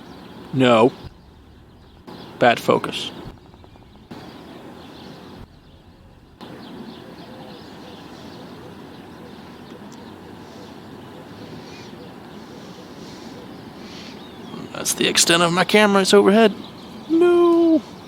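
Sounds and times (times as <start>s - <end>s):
faint bird chirps: 0.0s - 15.5s
distant jet engine noise: 0.0s - 18.0s.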